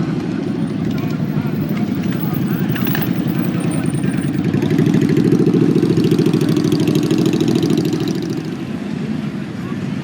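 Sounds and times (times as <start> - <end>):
motorcycle engine at low revs: 0.2 - 9.2.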